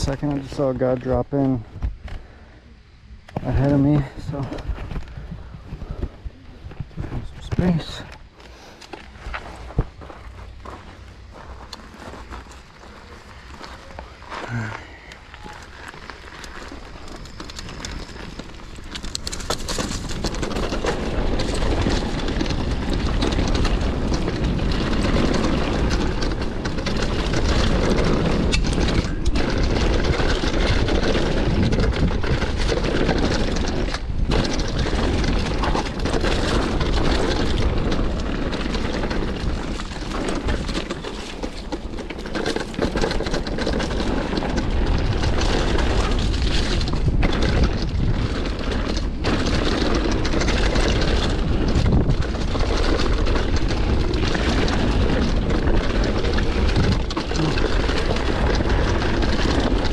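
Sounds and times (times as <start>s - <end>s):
bike tyres crunching and rattling: 0.0s - 2.6s, 3.2s - 59.9s
wind buffeting microphone: 3.1s - 8.1s, 14.1s - 59.9s.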